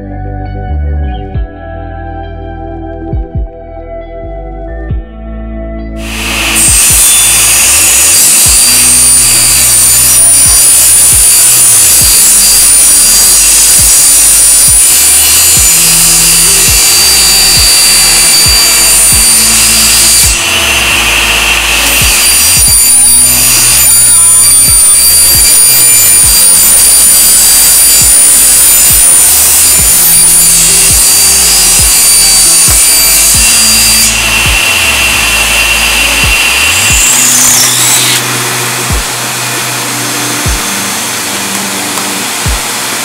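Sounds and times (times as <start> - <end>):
background music with deep bass: 0.0 - 43.0
table saw whining: 6.0 - 43.0.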